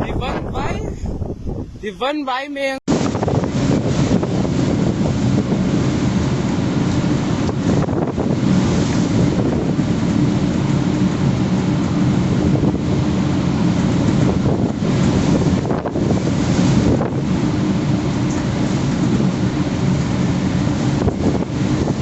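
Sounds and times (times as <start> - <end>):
storm wind roaring: 0.0 - 22.0.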